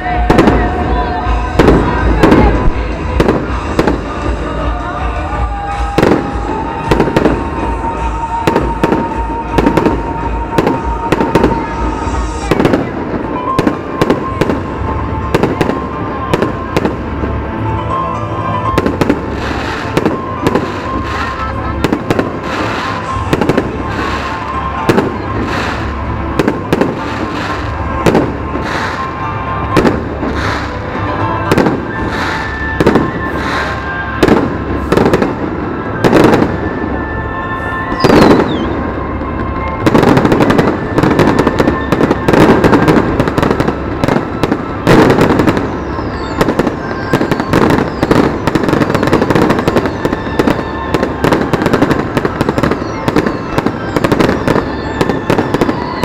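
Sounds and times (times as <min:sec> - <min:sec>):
fireworks bursting with bangs: 0:00.0 - 0:56.0.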